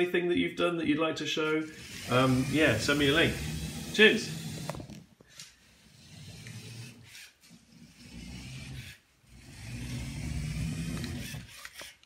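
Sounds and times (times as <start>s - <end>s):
toy car motors whirring: 1.6s - 12.0s.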